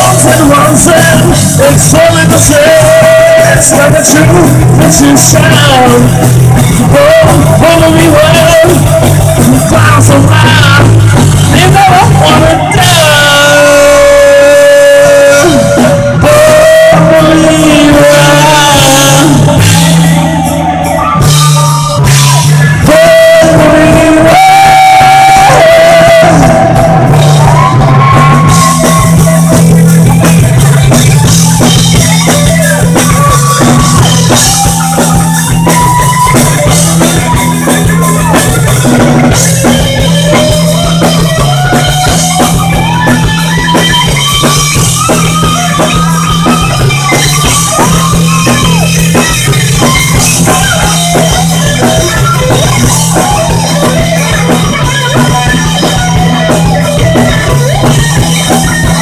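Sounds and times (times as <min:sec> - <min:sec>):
bass guitar: 0:00.0 - 0:59.0
drum kit: 0:00.0 - 0:59.0
electric guitar lead with bent notes: 0:00.0 - 0:59.0.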